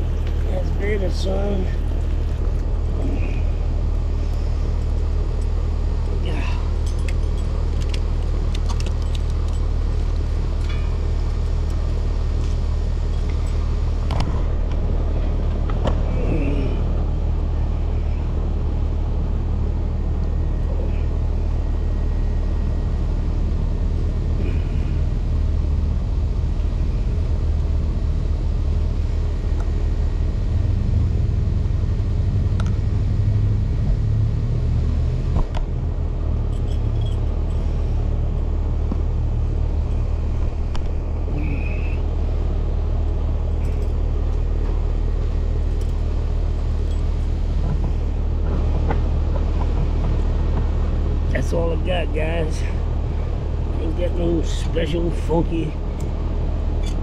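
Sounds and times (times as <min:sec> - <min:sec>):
low mechanical rumble: 0:00.0 - 0:57.0.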